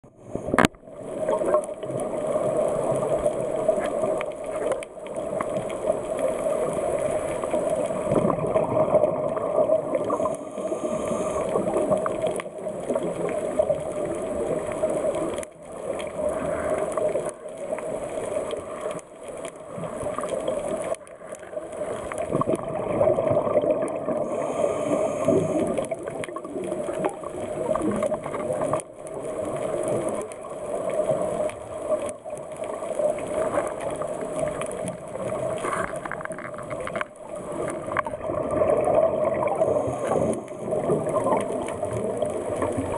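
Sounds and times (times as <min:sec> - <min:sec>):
underwater rush: 0:00.0 - 0:42.9.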